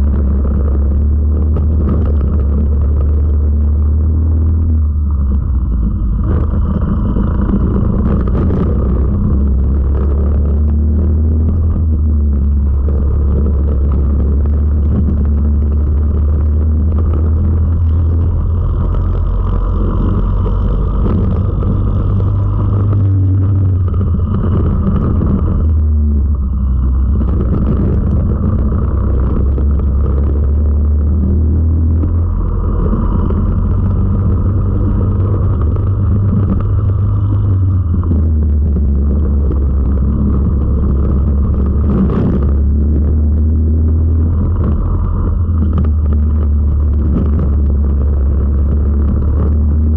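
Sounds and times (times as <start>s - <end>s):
kart engine running hard: 0.0s - 49.9s.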